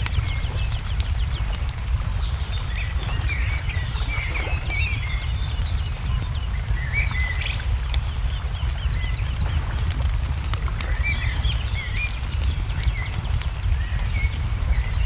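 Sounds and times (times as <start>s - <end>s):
low steady rumble: 0.0s - 15.0s
songbirds chirping and warbling: 0.0s - 15.0s
wood fire crackling and popping: 0.0s - 15.0s.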